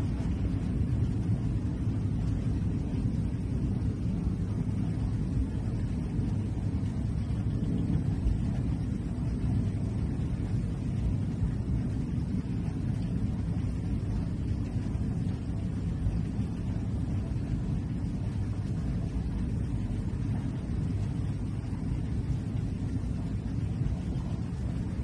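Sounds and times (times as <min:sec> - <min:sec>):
low rumbling noise: 0:00.0 - 0:25.0.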